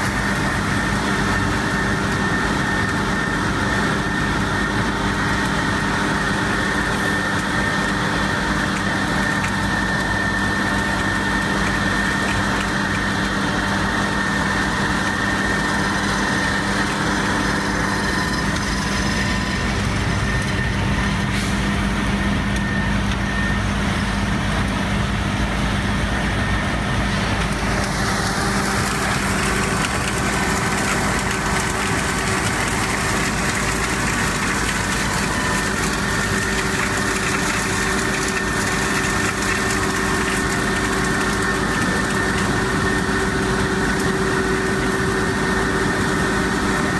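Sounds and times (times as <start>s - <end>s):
vacuum truck drone with whine: 0.0s - 46.9s.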